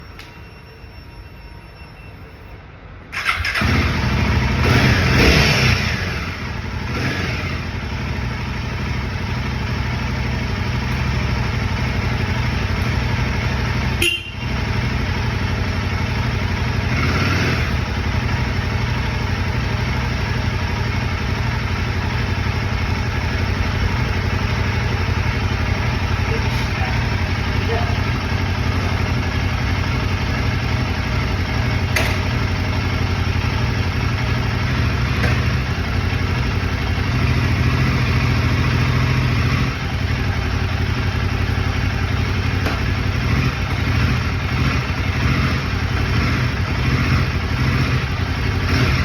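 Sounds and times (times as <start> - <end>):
motorcycle engine revving and idling: 3.2 - 49.0.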